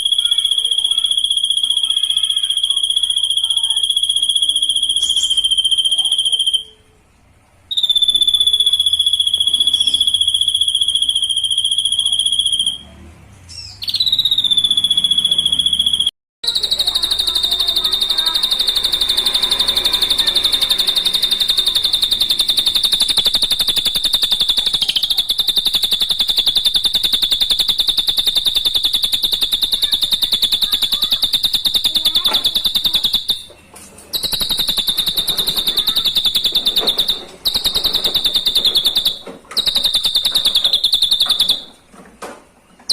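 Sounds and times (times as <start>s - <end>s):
bird high pulsing trill: 0.0s - 6.9s, 7.7s - 12.8s, 13.8s - 41.8s.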